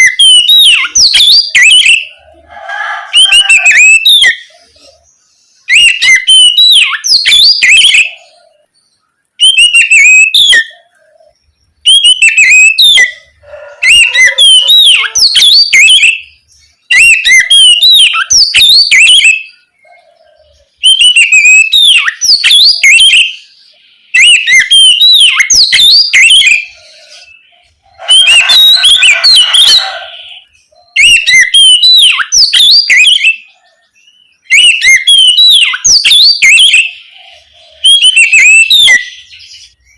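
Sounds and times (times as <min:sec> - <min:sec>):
bird whistled song: 0:00.0 - 0:39.9.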